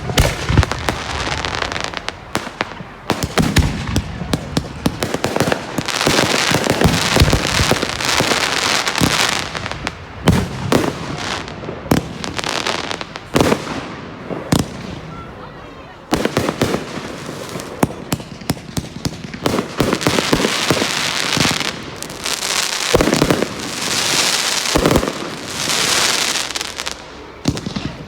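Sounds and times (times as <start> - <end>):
fireworks banging: 0.0 - 28.0
fireworks crackling hiss: 0.0 - 28.0.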